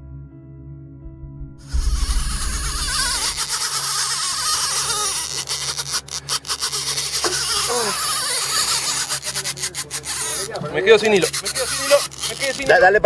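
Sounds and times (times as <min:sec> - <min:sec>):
reel rapid clicks: 0:01.7 - 0:12.9
fishing reel drag buzzing: 0:01.7 - 0:13.0.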